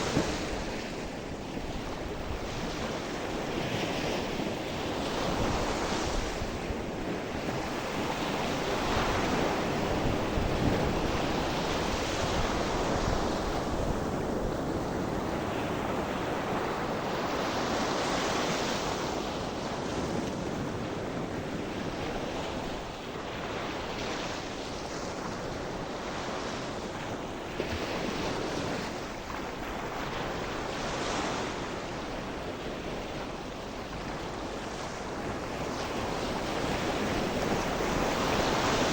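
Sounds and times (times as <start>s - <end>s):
waves breaking on shore: 0.0s - 38.9s
wind: 0.0s - 38.9s.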